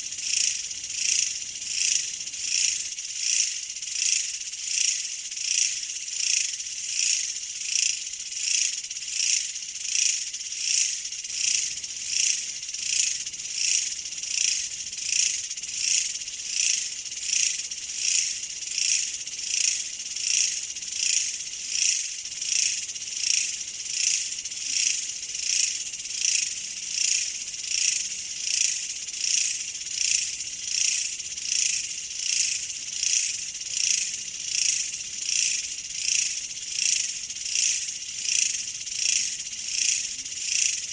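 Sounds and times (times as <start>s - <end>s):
insect chorus buzzing: 0.0s - 40.9s.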